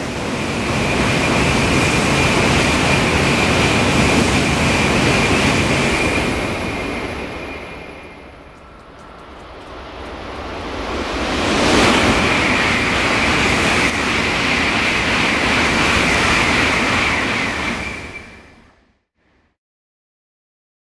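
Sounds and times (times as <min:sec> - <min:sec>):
high-speed train rushing past: 0:00.0 - 0:19.0.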